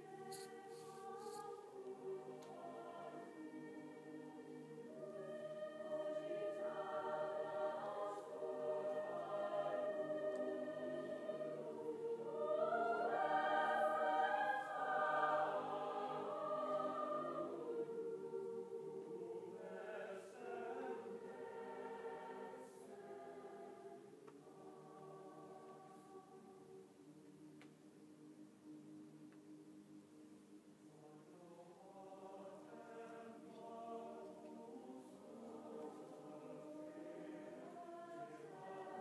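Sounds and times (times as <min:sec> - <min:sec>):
choir singing long notes: 0:00.0 - 0:39.0.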